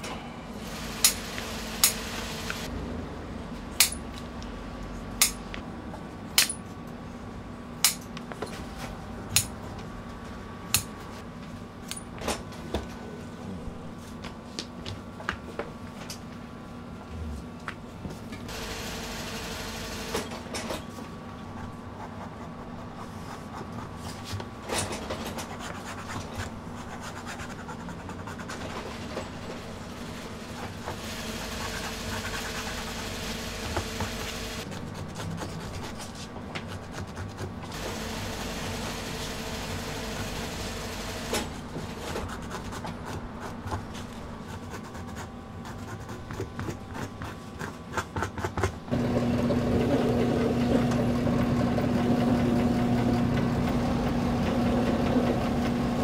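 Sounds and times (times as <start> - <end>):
steady machine hum: 0.0 - 36.6, 37.5 - 47.9, 48.8 - 56.0.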